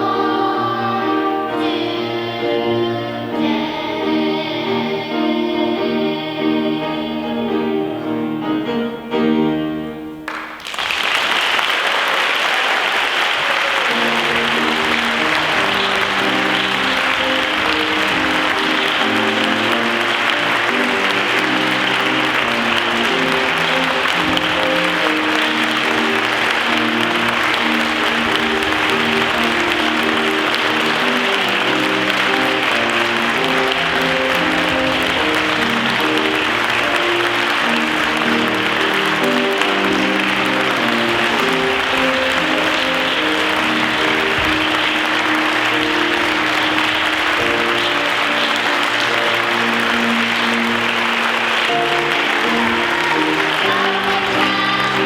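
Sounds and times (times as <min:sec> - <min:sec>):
instrumental music: 0:00.0 - 0:10.6, 0:13.9 - 0:55.0
audience applause: 0:10.1 - 0:55.0.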